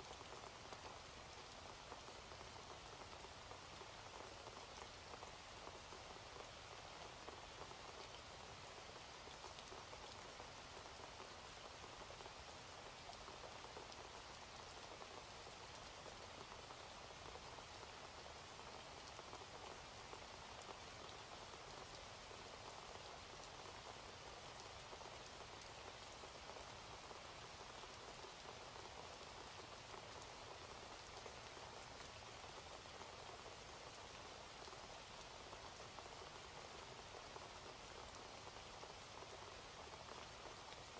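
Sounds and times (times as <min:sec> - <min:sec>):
faint steady rain: 0:00.0 - 0:40.9.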